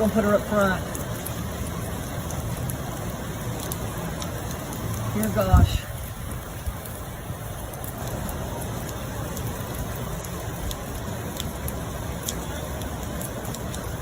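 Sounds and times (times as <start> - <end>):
drops ticking: 0.0 - 14.0
steady rain: 0.0 - 14.0.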